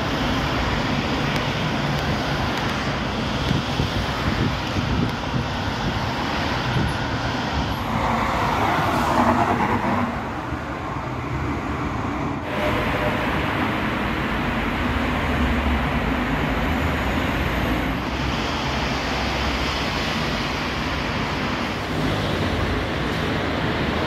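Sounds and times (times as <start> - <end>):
cars passing: 0.0 - 24.0
street hum: 0.0 - 24.0
tram passing: 0.0 - 24.0.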